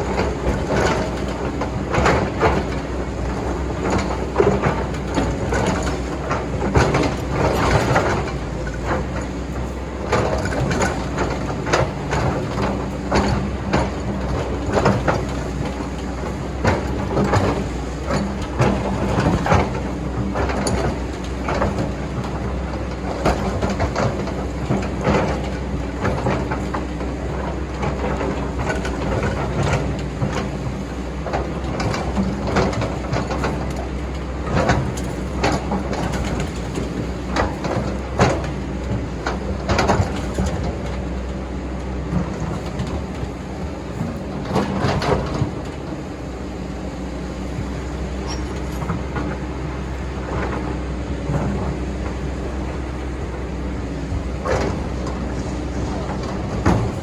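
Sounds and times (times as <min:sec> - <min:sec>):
excavator clanks and scrapes: 0:00.0 - 0:57.0
excavator engine running: 0:00.0 - 0:57.0.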